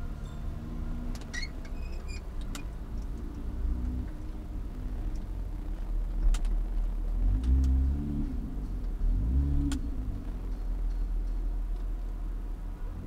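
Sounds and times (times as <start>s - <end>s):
sports car engine at low revs: 2.3s - 13.0s.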